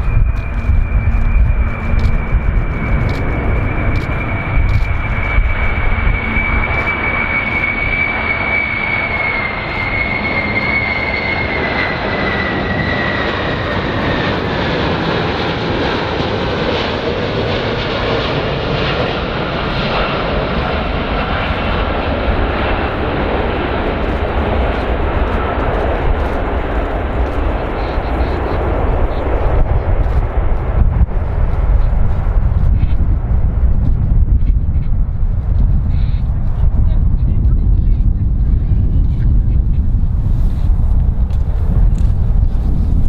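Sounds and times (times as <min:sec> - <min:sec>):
jet engines whining and rumbling: 0:00.0 - 0:43.0.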